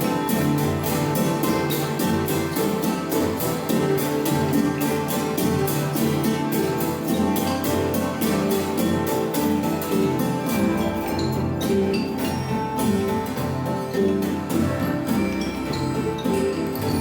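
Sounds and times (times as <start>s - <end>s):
light percussive strikes: 0.0s - 17.0s
sustained string tones: 0.0s - 17.0s.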